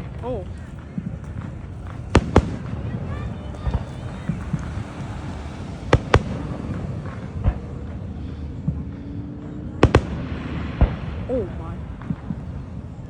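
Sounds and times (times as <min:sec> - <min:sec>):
fireworks bursting: 0:00.0 - 0:13.0
low rumble: 0:00.0 - 0:13.0.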